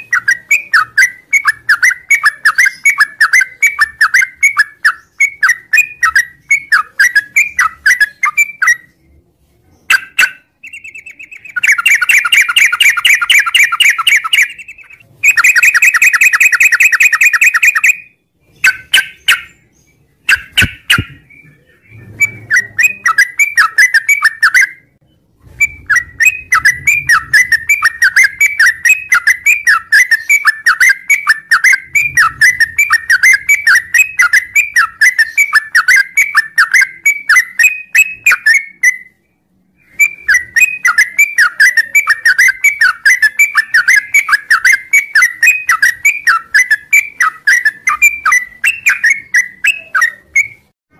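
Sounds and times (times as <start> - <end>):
bird chirping song with trills: 0.0 - 50.8.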